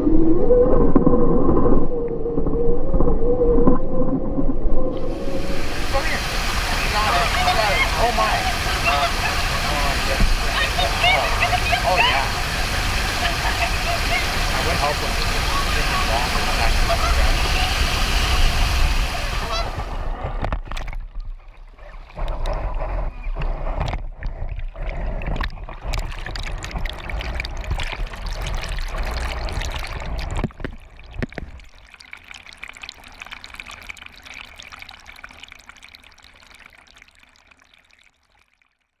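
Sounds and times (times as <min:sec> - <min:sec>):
water splashing and running: 0:04.9 - 0:39.0.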